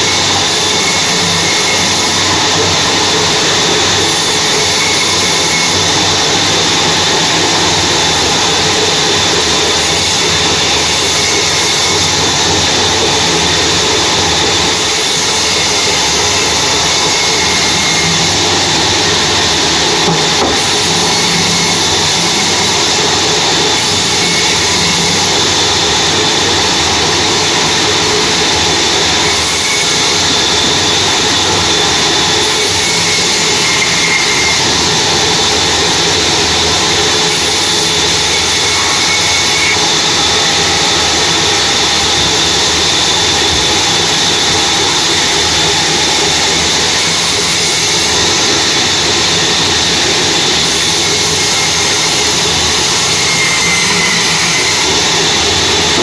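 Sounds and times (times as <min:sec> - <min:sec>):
bandsaw whining through logs: 0:00.0 - 0:56.0.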